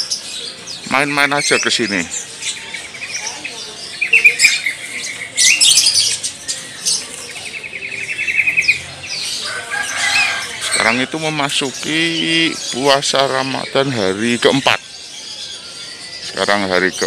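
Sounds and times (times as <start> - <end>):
bird trills: 0.0 - 17.0
caged birds chirping: 0.0 - 17.0.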